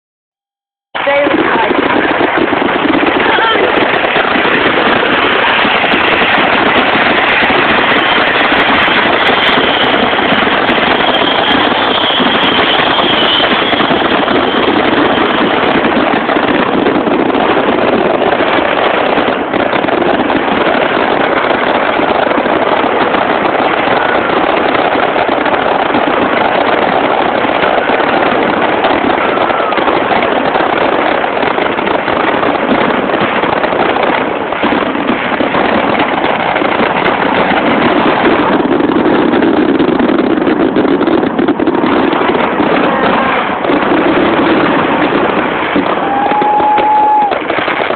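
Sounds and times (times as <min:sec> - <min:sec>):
fireworks crackling: 0:01.0 - 0:47.9.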